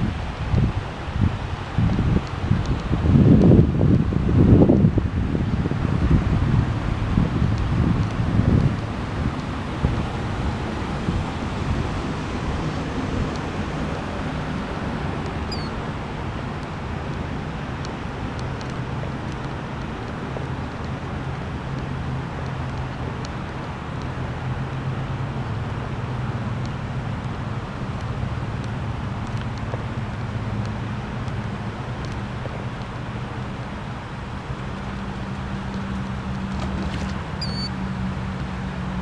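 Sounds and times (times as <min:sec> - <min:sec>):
low steady rumble: 0:00.0 - 0:39.0
wind on microphone: 0:00.0 - 0:39.0.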